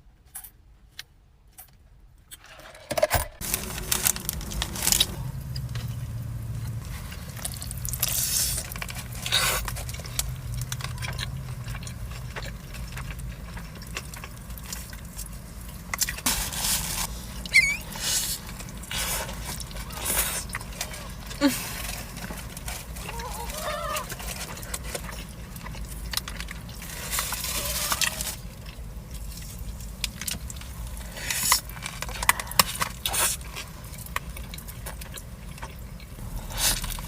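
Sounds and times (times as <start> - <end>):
person chewing and crunching food: 3.4 - 37.0.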